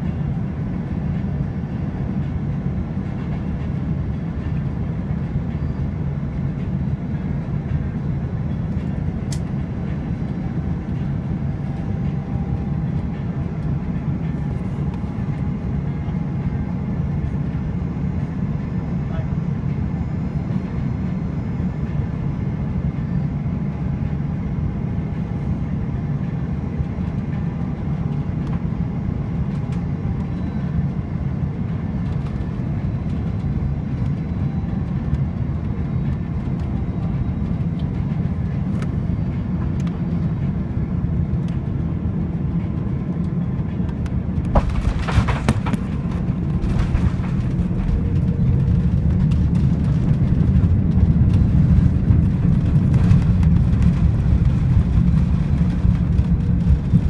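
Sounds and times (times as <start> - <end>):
engine and airflow rumble: 0.0 - 57.0.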